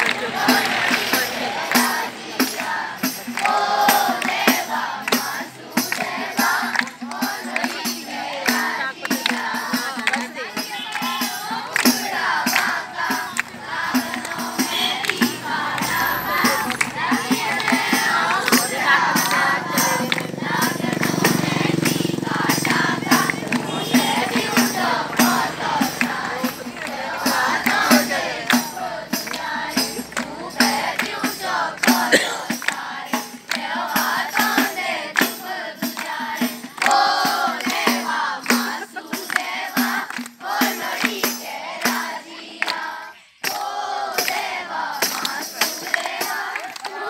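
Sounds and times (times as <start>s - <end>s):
children clapping: 0.0s - 47.0s
children singing: 0.0s - 47.0s.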